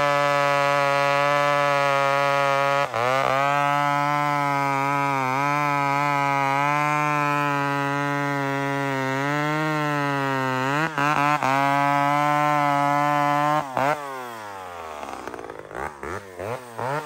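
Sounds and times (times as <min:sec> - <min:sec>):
chainsaw running at high revs: 0:00.0 - 0:17.0.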